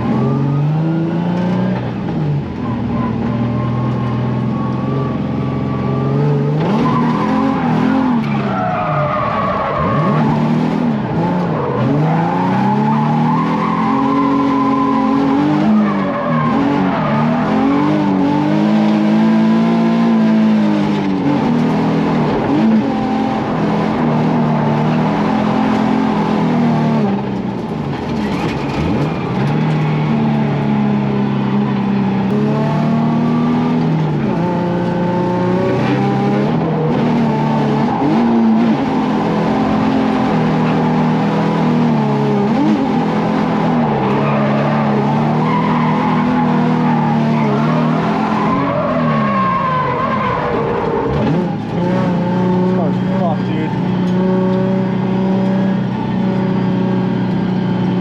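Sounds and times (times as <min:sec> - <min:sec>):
car engine revving high: 0:00.0 - 0:27.5, 0:28.2 - 0:58.0
tires squealing: 0:01.8 - 0:58.0.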